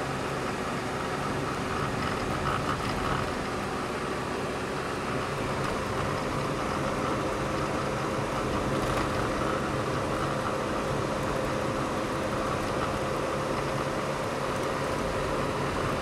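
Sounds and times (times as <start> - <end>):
car cabin engine and tyre noise: 0.0 - 16.0.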